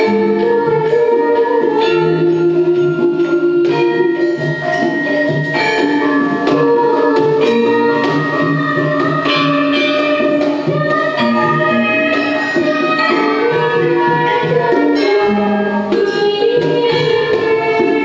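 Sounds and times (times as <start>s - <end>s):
gamelan ensemble playing: 0.0s - 18.0s.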